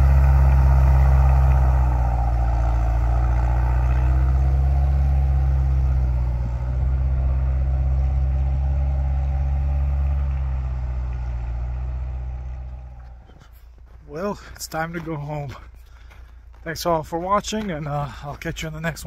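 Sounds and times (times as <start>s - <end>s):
snow vehicle engine droning: 0.0s - 19.0s.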